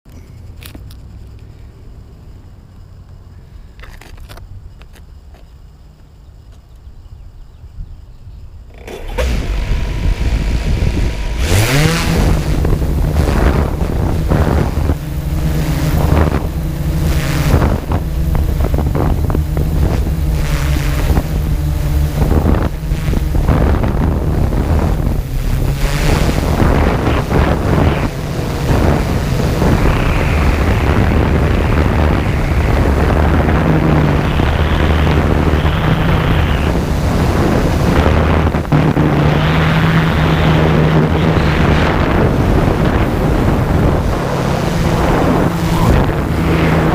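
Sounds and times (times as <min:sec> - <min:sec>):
drone motors humming: 0:05.8 - 0:46.9
wind buffeting microphone: 0:06.9 - 0:46.9.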